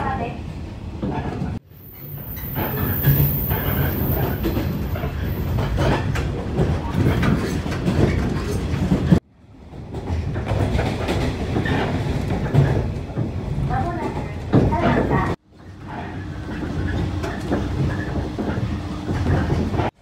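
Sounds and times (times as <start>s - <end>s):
train wheels clattering on rails: 1.0s - 20.0s.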